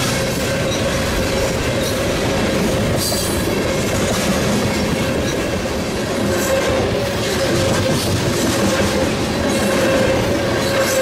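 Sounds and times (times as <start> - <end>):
freight train wheels rumbling: 0.0 - 11.0
wheels clacking over rail joints: 0.0 - 11.0.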